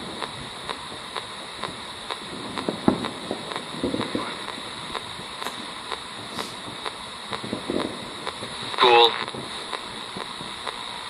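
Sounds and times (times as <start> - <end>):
radio static with clicks: 0.0 - 11.0
snatches of radio broadcast: 0.0 - 11.0.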